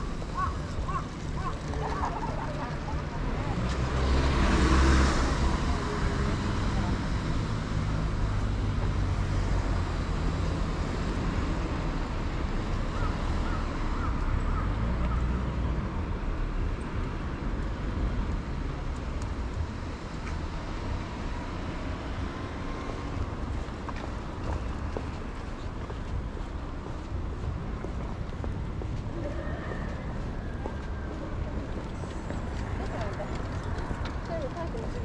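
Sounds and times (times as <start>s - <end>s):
traffic rumble: 0.0s - 35.0s.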